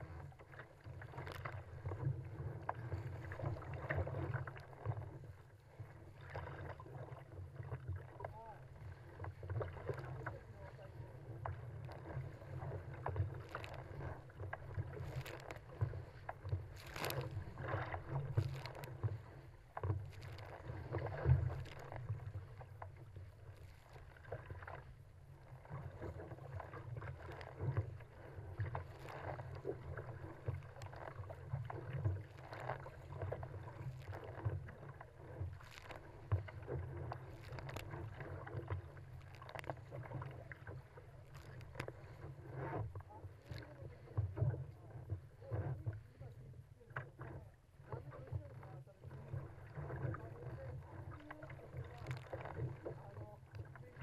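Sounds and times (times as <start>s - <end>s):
sea water slapping hull: 0.0s - 54.0s.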